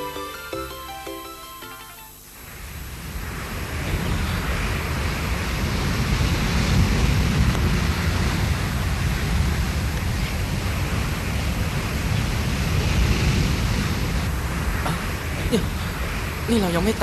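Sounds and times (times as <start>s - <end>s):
sea waves rumbling: 2.4s - 17.0s
wind rushing: 2.4s - 17.0s.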